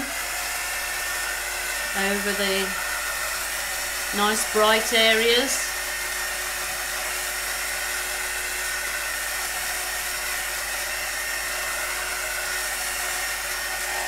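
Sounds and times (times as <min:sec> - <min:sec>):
heat gun running: 0:00.0 - 0:14.0.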